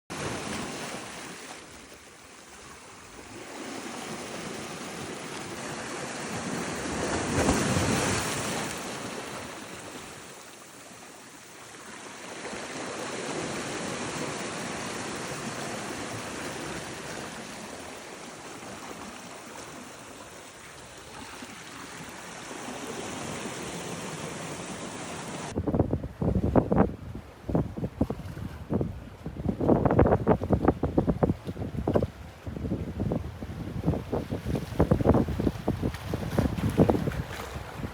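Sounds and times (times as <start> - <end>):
sea waves washing onto beach: 0.1 - 25.6, 28.2 - 37.9.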